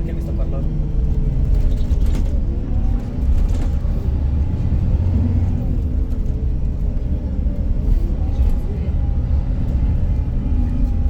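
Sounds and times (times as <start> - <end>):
bus drivetrain rumble and whine: 0.0 - 11.0.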